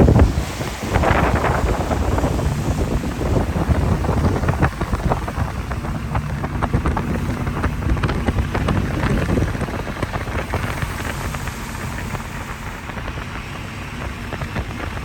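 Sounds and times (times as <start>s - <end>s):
raindrops pattering: 0.0s - 15.0s
wind rumble on microphone: 0.0s - 15.0s.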